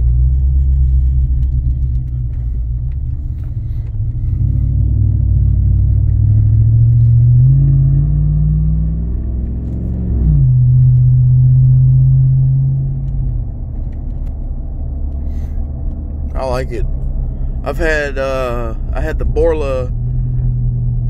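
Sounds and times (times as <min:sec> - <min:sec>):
truck exhaust drone: 0:00.0 - 0:21.0.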